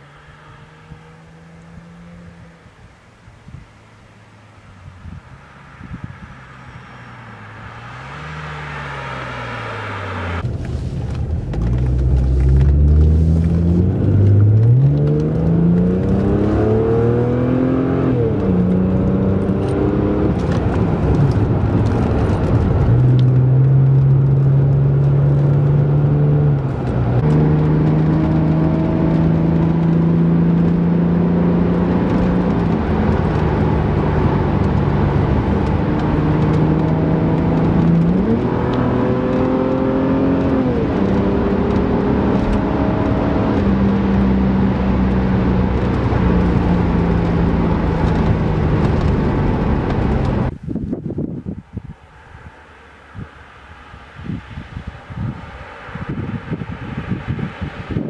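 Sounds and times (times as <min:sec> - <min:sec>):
car engine accelerating: 0:00.0 - 0:50.5
car approaching: 0:00.0 - 0:58.0.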